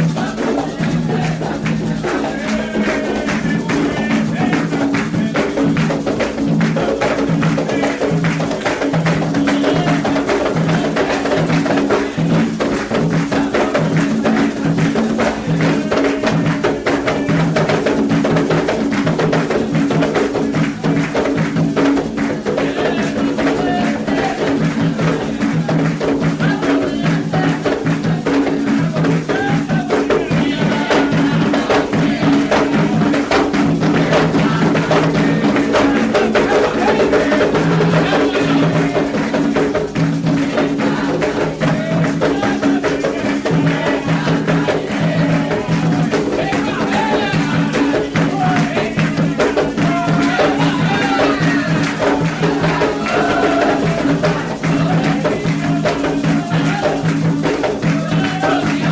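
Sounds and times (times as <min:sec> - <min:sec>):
hand drums rhythm: 0:00.0 - 0:58.9
struck percussion instrument: 0:00.0 - 0:58.9.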